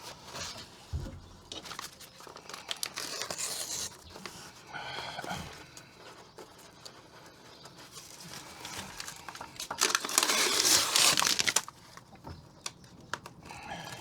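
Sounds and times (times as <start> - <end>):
backing paper crinkling and tearing: 0.0 - 14.0.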